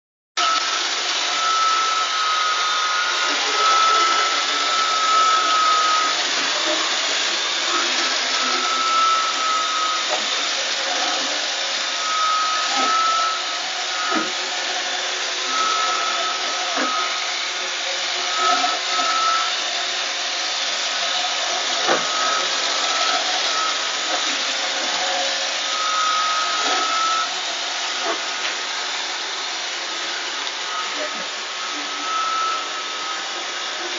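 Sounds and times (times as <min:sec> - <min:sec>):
robot vacuum whirring: 0:00.4 - 0:33.9.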